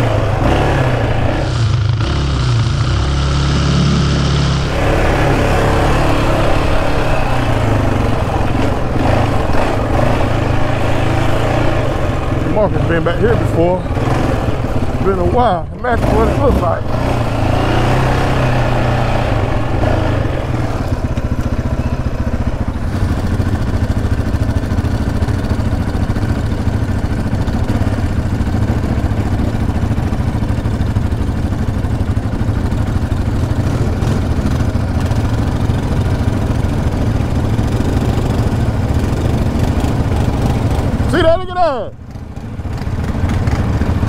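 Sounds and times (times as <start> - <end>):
quad engine idling: 0.0 - 44.0.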